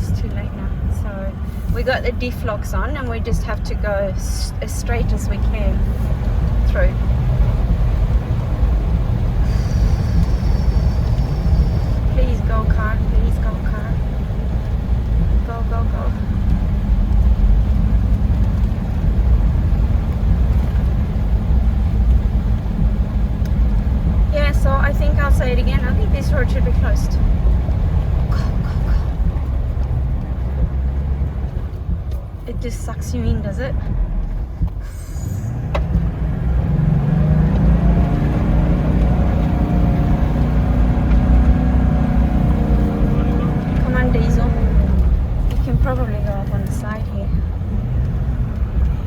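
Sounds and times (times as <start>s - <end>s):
diesel engine working hard: 0.0s - 49.0s
tyres churning mud and water: 0.0s - 49.0s.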